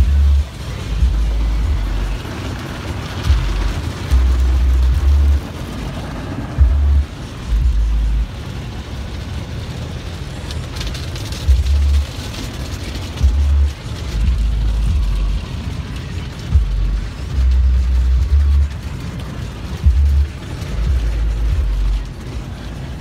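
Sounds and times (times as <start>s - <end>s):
bass-heavy music inside car: 0.0s - 23.0s
water spray hissing on car: 0.0s - 23.0s.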